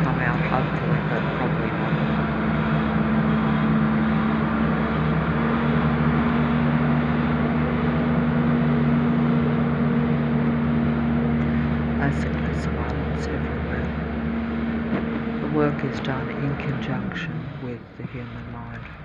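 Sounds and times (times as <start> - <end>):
airplane droning overhead: 0.0 - 19.0.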